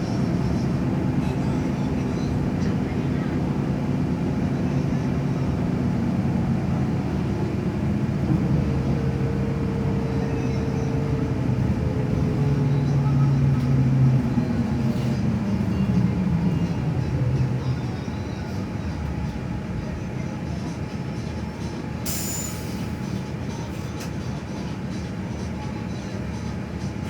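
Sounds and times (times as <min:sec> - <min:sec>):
vehicle running low rumble: 0:00.0 - 0:22.0.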